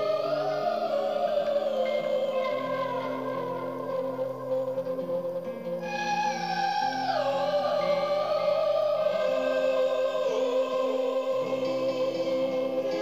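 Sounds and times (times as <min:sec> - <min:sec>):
slow music of sustained notes: 0:00.0 - 0:13.0.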